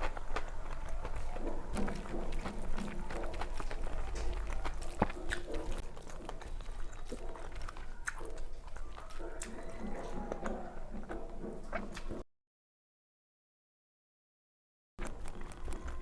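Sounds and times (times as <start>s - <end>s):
chewing and wet mouth sounds: 0.0s - 12.2s, 15.0s - 16.0s.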